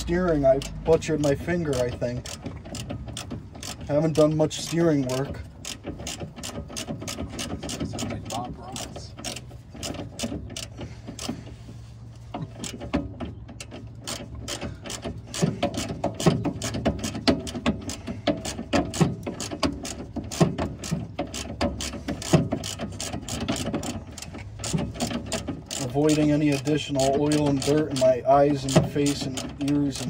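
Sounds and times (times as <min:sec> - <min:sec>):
hand ratchet clicking: 0:00.0 - 0:11.5, 0:13.6 - 0:30.0.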